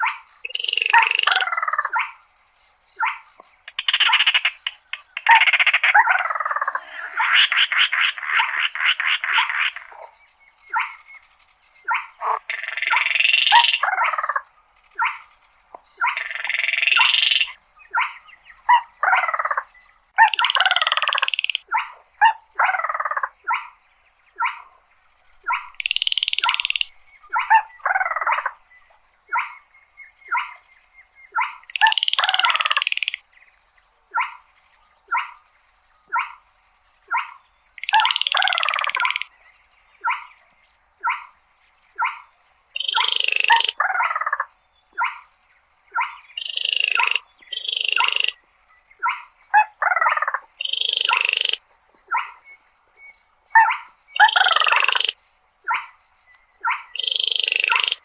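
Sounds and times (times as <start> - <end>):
crake rattling calls: 0.0 - 48.4, 49.0 - 52.8, 53.5 - 58.0.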